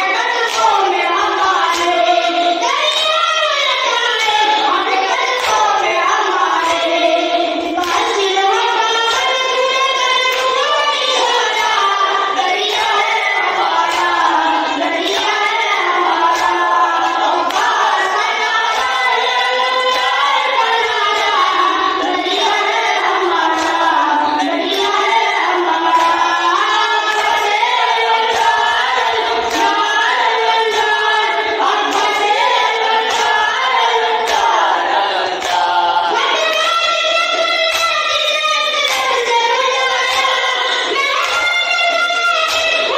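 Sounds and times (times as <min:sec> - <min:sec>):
boy chanting into a microphone: 0:00.0 - 0:42.9.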